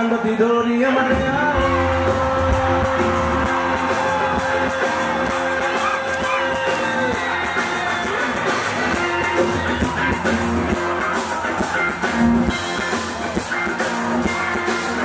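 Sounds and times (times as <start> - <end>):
audience cheering and singing: 0.0 - 15.0
live concert music: 0.0 - 15.0.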